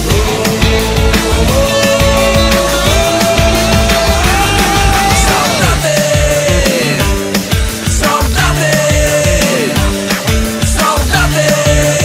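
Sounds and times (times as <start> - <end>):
loud rock music with drums: 0.0 - 12.0.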